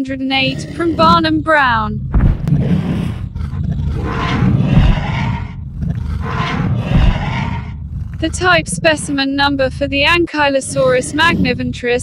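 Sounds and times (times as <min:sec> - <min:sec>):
dinosaur roars: 0:00.4 - 0:09.4, 0:10.6 - 0:11.8.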